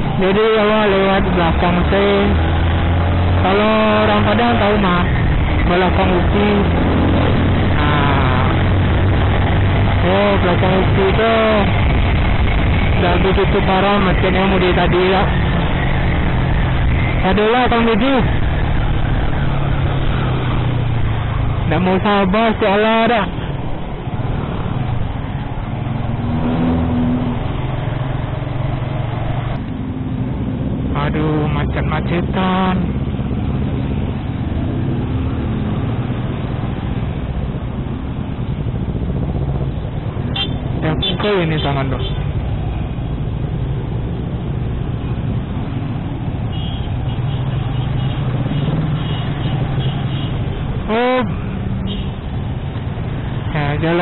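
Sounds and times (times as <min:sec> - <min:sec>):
road noise: 0:00.0 - 0:54.0
surrounding traffic noise: 0:00.0 - 0:54.0.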